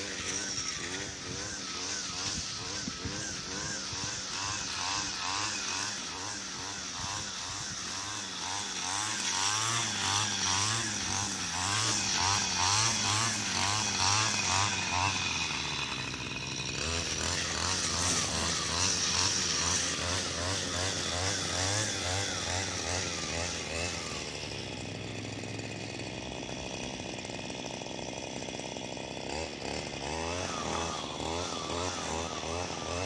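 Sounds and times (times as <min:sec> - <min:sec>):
string trimmer engine cutting grass: 0:00.0 - 0:33.0.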